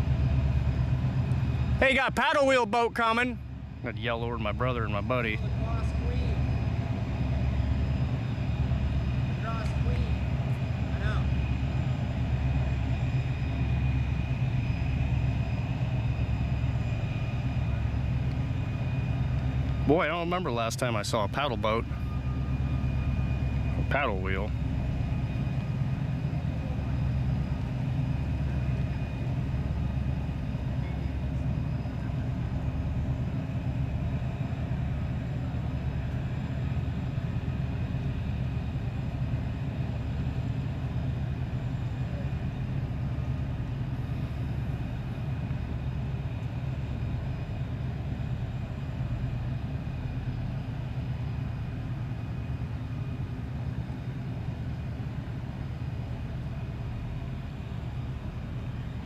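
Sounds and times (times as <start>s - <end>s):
boat diesel engines droning: 0.0s - 59.0s.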